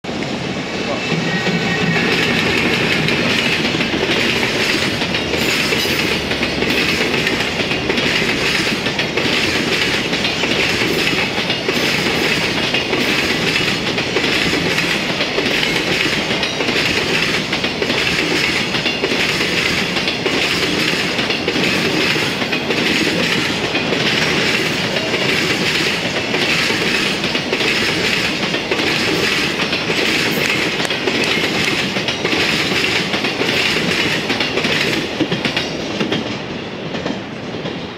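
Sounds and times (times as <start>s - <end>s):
steel wheels rumbling on rail: 0.0s - 37.9s
wheels clickety-clack over rail joints: 0.1s - 37.9s.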